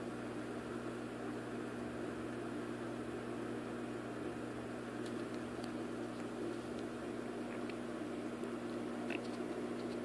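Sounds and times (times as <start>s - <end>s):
aquarium pumps humming: 0.0s - 10.0s.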